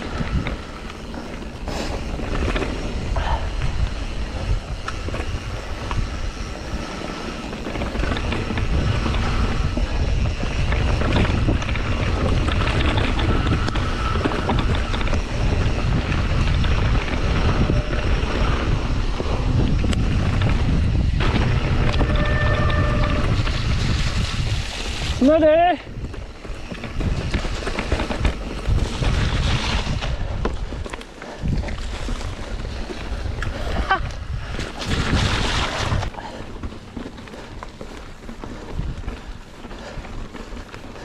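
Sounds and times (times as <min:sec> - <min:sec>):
bike tyre noise on dirt: 0:00.0 - 0:41.0
wind buffeting microphone: 0:00.0 - 0:41.0.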